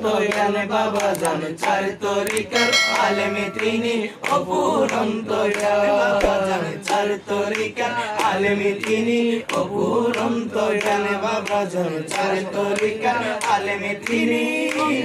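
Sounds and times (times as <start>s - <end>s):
man singing devotional song: 0.0s - 15.0s
hand claps: 0.2s - 15.0s.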